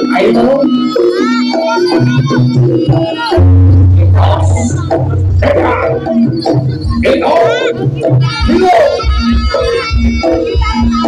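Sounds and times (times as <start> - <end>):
live traditional ensemble music: 0.0 - 11.0.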